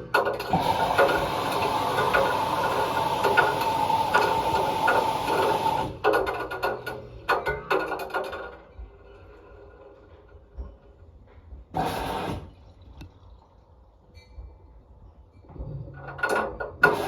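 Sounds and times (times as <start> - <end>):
washing machine running: 0.0 - 11.0, 11.6 - 13.4, 15.9 - 17.0.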